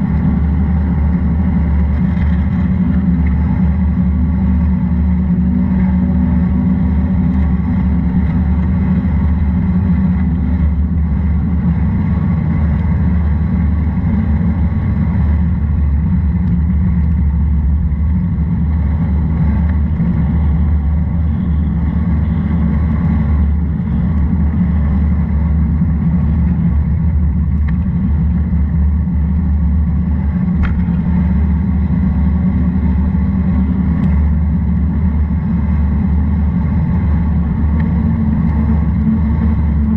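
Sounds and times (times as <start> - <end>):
vehicle rumbling on wet road: 0.0 - 39.9.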